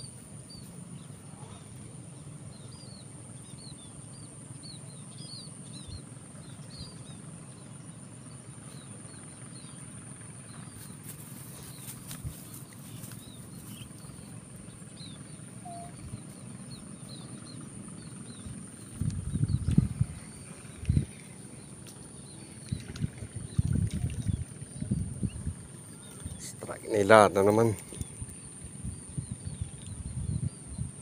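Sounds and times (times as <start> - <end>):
low background rumble: 0.0 - 31.0
bird chirping: 2.5 - 30.6.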